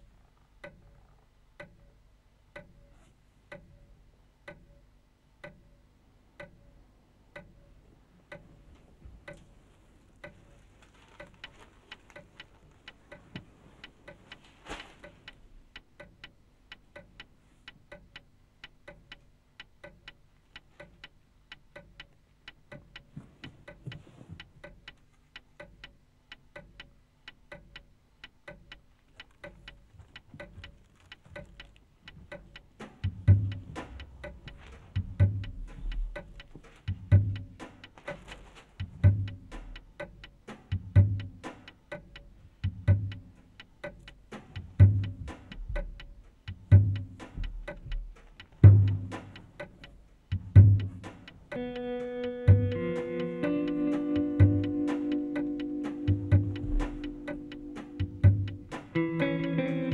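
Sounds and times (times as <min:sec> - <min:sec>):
sharp clock-like ticking: 0:00.0 - 0:08.6, 0:10.2 - 0:59.9.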